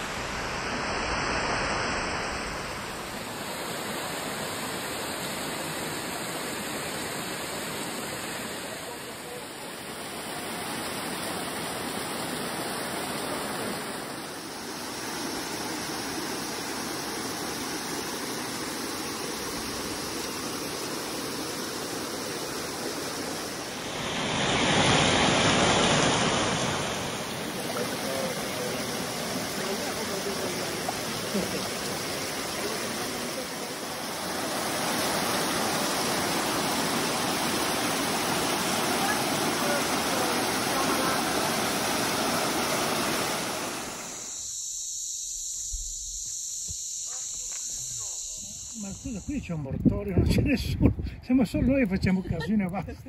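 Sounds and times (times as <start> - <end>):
waterfall rushing: 0.0 - 44.3.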